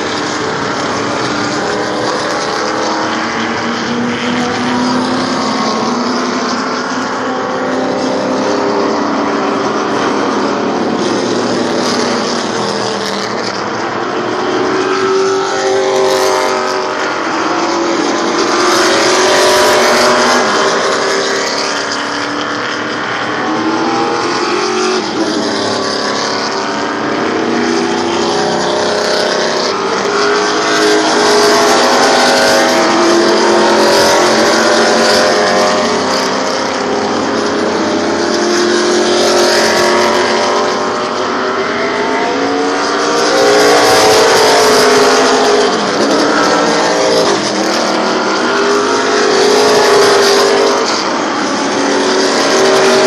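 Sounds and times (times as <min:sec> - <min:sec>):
race cars passing by: 0:00.0 - 0:53.0.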